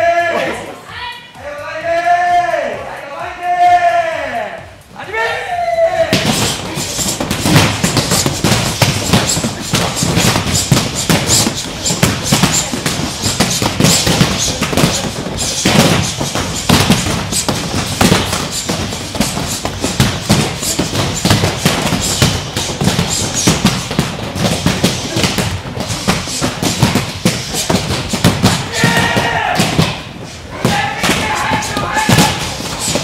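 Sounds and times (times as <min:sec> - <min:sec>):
punches thudding on foam pads: 0:06.1 - 0:33.0.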